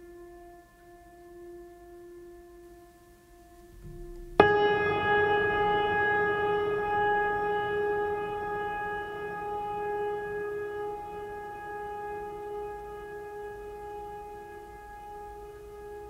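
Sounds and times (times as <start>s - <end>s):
sustained note rich in overtones: 0.0s - 16.0s.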